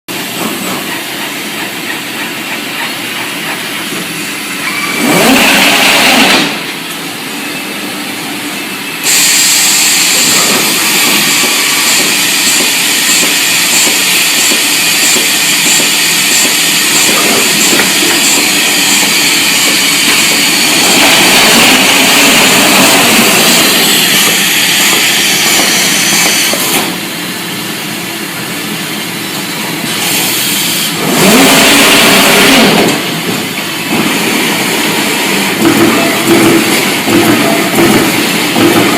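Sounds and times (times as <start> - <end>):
sheet-metal machine running: 0.1 - 38.9.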